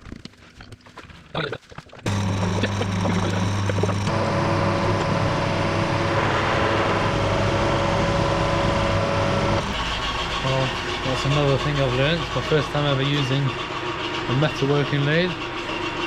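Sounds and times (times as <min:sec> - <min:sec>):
metalworking lathe humming and whining: 0:02.1 - 0:16.0.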